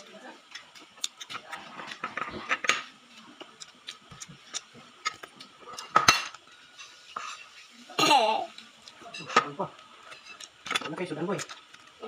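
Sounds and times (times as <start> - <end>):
child chewing: 0.4 - 9.3, 9.9 - 12.0.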